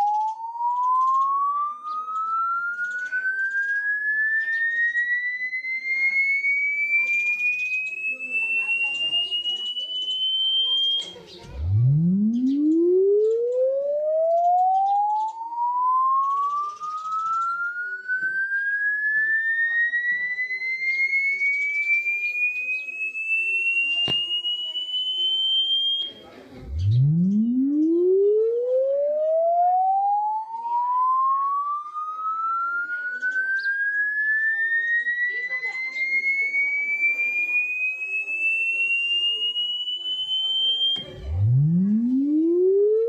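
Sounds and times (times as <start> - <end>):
rising electronic tone sweep: 0.0 - 8.2, 11.4 - 43.0.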